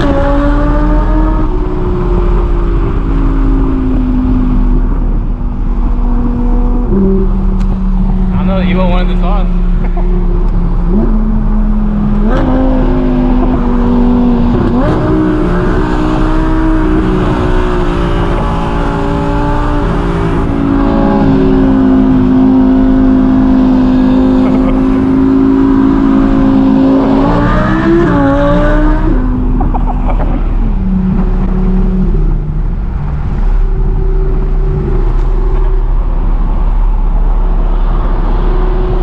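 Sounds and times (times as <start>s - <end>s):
car engine running: 0.0s - 38.3s.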